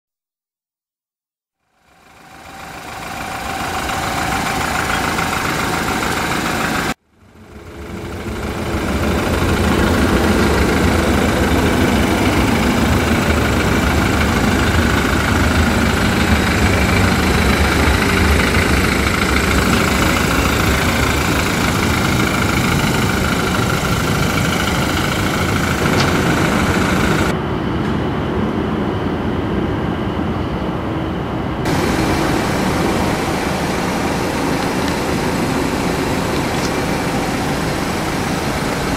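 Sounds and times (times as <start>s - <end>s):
car engine idling: 1.6s - 27.3s, 31.7s - 38.9s.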